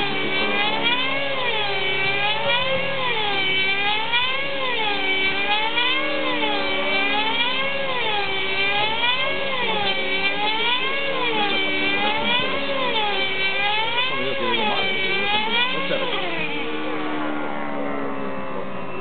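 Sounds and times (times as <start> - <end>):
model helicopter engine whine: 0.0 - 19.0.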